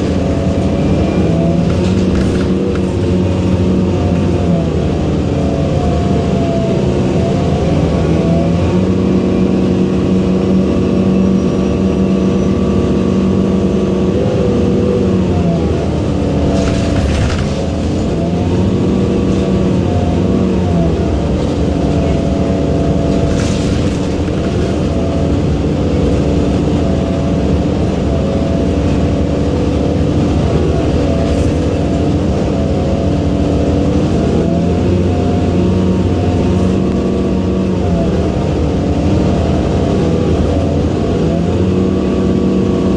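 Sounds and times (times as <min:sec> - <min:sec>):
bus engine drone: 0:00.0 - 0:42.9.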